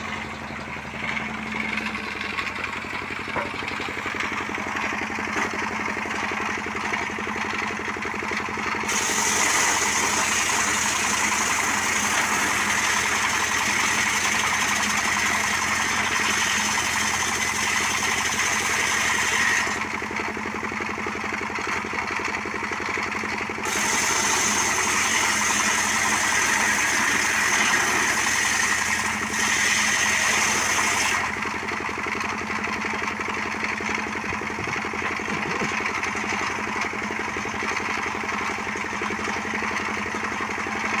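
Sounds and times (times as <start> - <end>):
motorcycle engine powering saw: 0.0 - 41.0.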